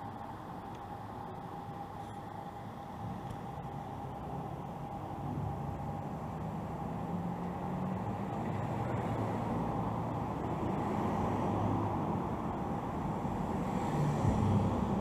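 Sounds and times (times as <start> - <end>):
car engines and tyres on road: 0.0 - 15.0.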